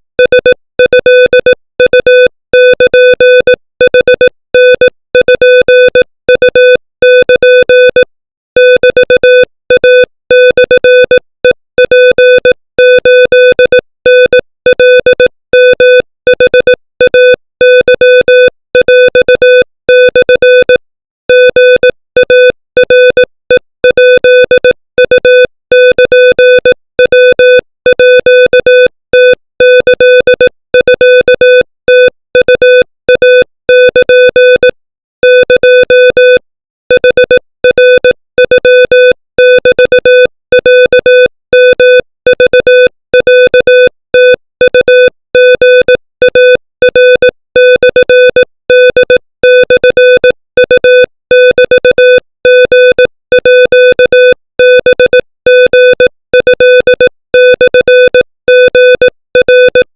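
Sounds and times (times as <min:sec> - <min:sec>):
morse code tone: 0:00.2 - 0:59.9.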